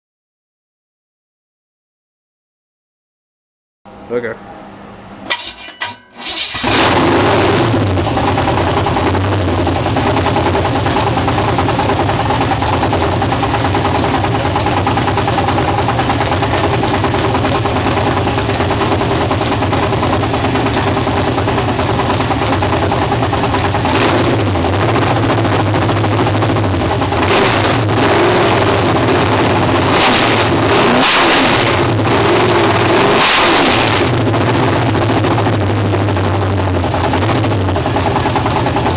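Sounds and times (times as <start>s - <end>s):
engine idling and revving: 6.2s - 38.9s.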